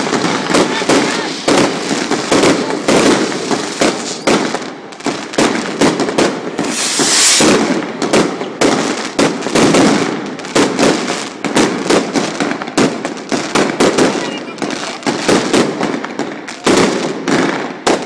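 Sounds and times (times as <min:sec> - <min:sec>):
fireworks bangs and cracks: 0:00.0 - 0:18.0
hissing crackle of fireworks: 0:00.0 - 0:18.0.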